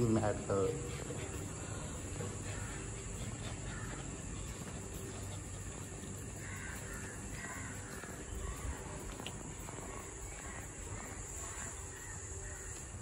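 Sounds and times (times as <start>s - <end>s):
faint bird calls: 0.0s - 13.0s
steady background hiss: 0.0s - 13.0s.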